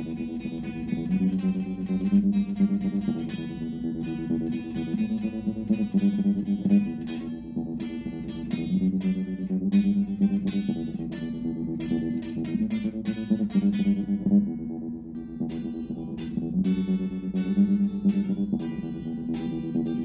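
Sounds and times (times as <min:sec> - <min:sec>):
electric guitar playing: 0:00.0 - 0:20.0.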